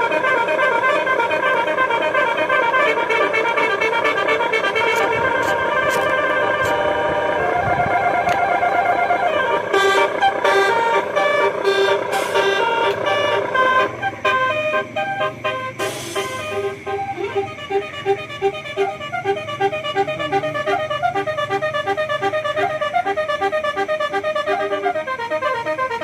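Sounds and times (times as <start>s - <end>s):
multi-tone bus horn tune: 0.0s - 26.0s.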